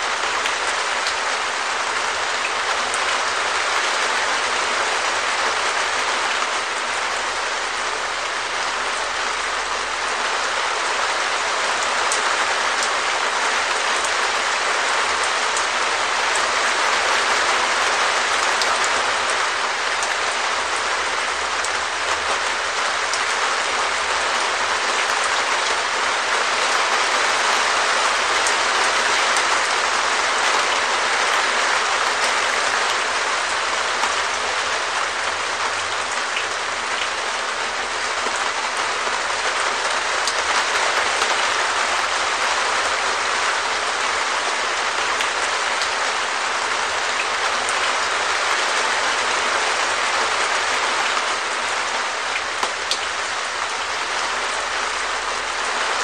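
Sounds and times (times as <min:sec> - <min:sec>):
rain on a plastic roof: 0:00.0 - 0:56.0.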